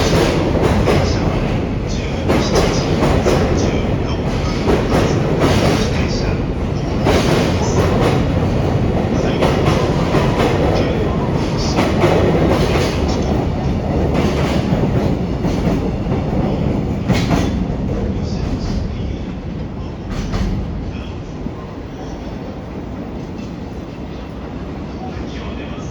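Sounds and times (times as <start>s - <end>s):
freight train wheels clacking: 0.0s - 24.7s.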